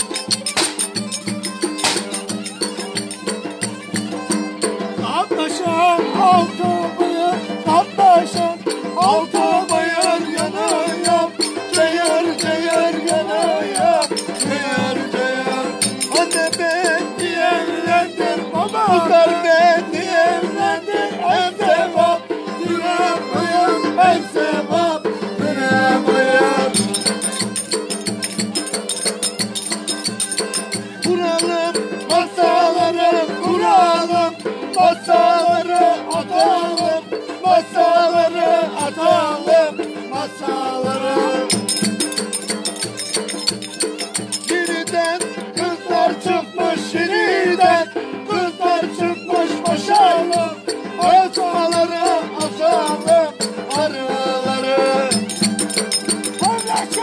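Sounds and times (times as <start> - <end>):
rattling percussion beat: 0.0 - 57.0
violin folk dance tune: 0.0 - 57.0.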